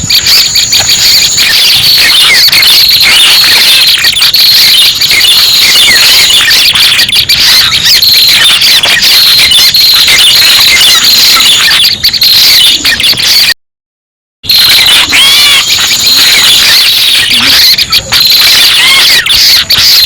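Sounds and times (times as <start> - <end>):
bird chirps and trills: 0.0 - 13.5, 14.6 - 20.0.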